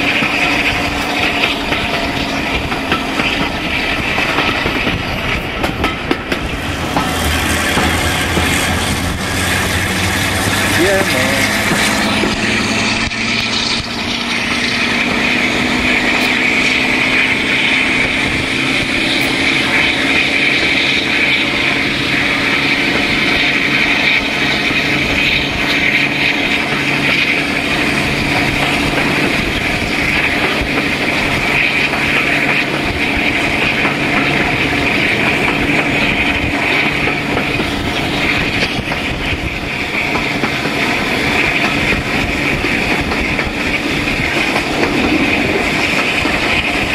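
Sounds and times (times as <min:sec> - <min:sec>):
diesel locomotive engine working hard: 0:00.0 - 0:46.9
rushing wind: 0:00.0 - 0:46.9
train running: 0:00.0 - 0:46.9.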